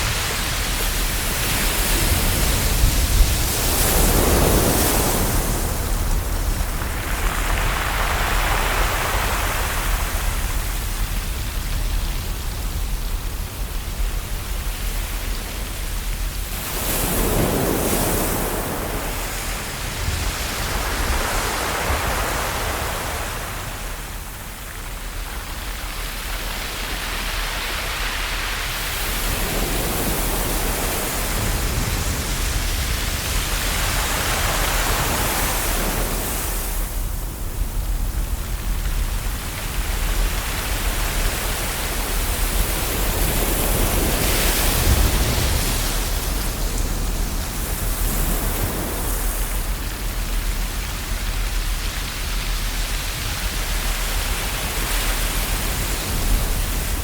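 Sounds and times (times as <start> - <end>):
ocean waves washing onto shore: 0.0 - 57.0.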